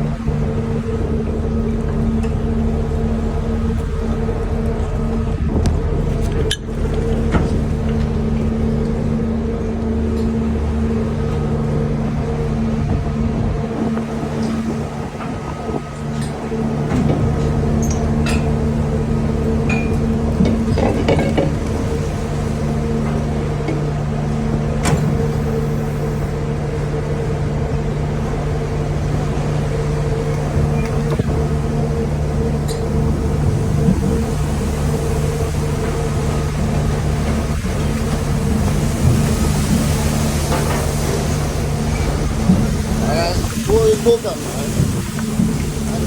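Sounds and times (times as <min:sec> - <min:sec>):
boat engine hum: 0:00.0 - 0:46.0.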